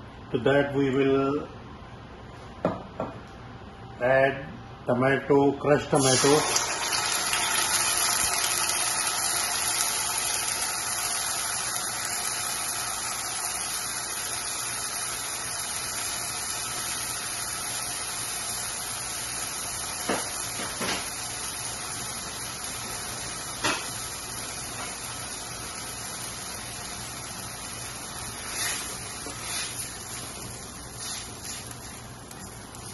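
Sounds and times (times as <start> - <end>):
tomato sizzling in hot oil: 6.0 - 32.9.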